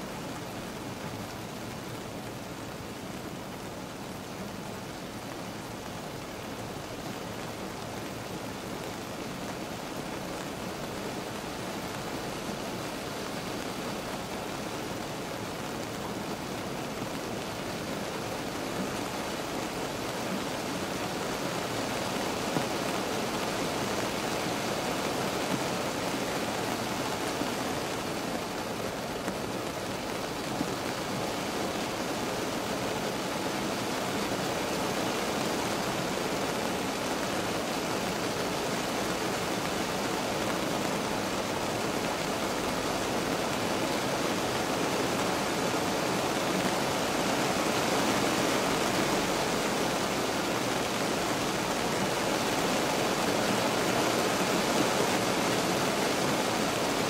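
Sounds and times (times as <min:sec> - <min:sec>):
rain on a car roof: 0:00.0 - 0:57.0.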